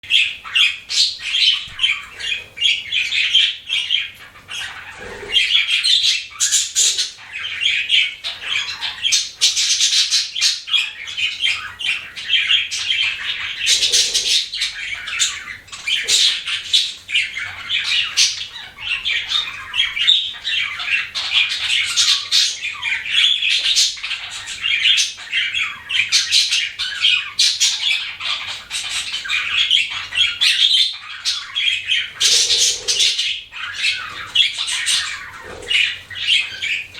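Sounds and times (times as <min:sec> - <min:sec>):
budgerigar chirping: 0:00.0 - 0:36.9.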